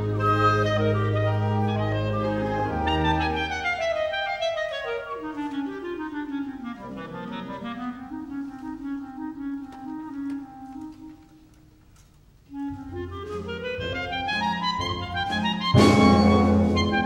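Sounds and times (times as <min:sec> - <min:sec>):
solo clarinet: 0:00.0 - 0:11.8, 0:12.4 - 0:17.0.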